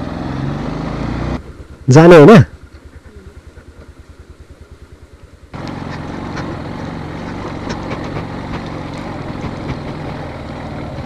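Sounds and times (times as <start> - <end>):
motorcycle engine: 0.0 - 11.0
road noise: 0.0 - 11.0.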